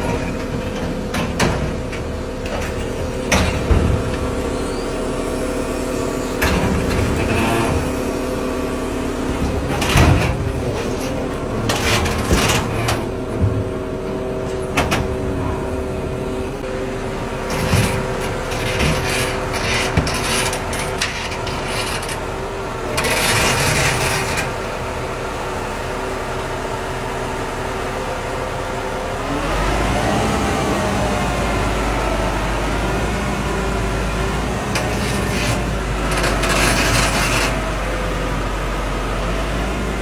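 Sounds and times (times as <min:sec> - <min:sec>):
crane engine running: 0:00.0 - 0:40.0.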